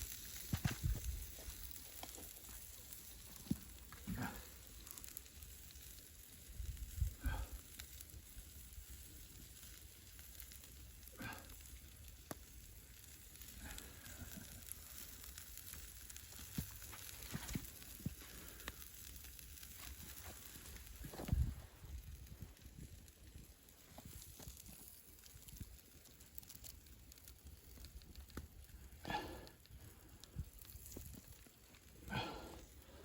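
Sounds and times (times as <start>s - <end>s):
fire crackling: 0.0s - 33.0s
meat sizzling over a campfire: 0.0s - 33.0s.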